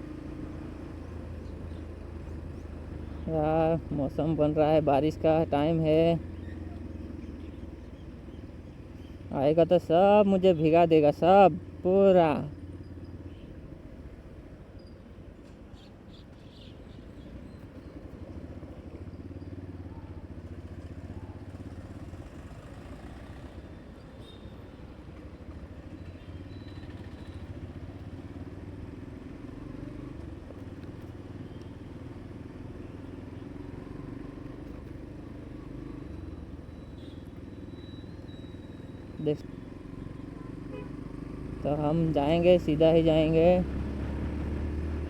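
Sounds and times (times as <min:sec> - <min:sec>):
motorcycle engine humming: 0:00.0 - 0:45.0.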